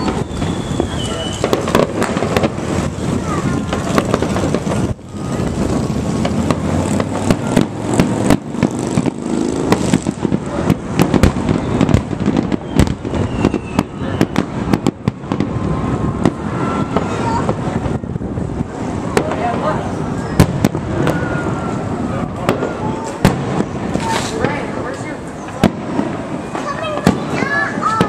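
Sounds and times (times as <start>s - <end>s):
fireworks bursting: 0.0s - 28.0s
steady background noise: 0.0s - 28.0s.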